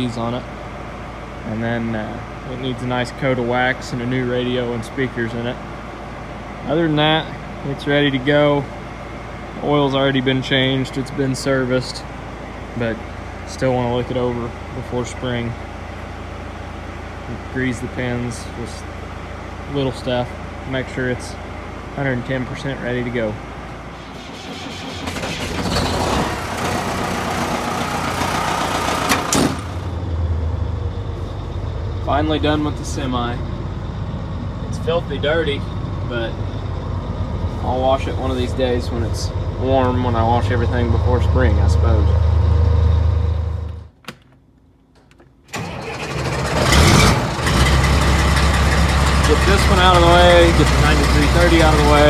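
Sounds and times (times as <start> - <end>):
diesel truck engine running: 0.0 - 44.0, 45.5 - 52.0.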